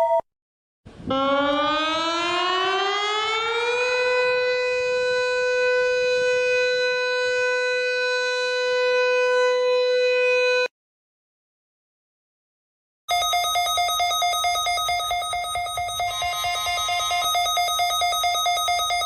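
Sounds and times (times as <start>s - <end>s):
warning siren winding up: 1.0s - 10.7s, 13.1s - 19.0s.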